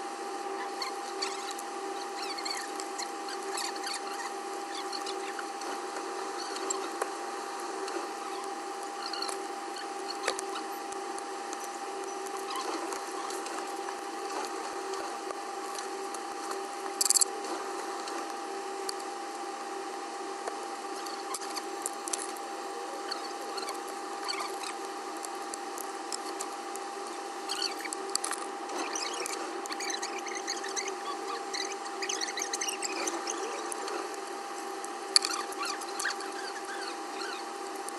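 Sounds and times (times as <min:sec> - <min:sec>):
steady electrical hum: 0:00.0 - 0:37.9.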